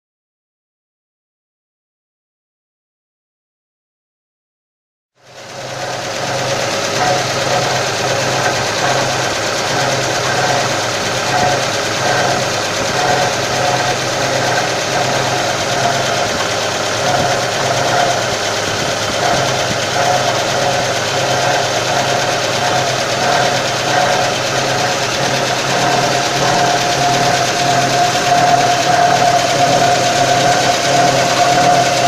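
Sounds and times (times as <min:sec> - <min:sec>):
car engine idling: 0:05.2 - 0:32.0
water pump whine: 0:05.2 - 0:32.0.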